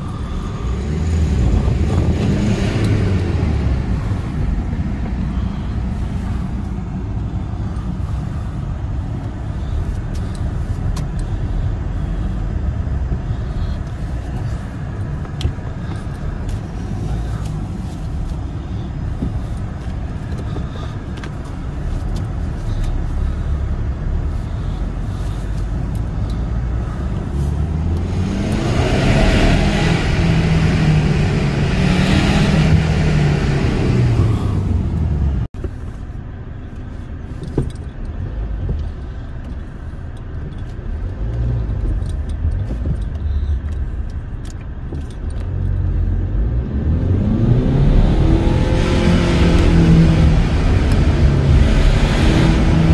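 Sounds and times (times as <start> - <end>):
car engine and exhaust: 0.0 - 52.9.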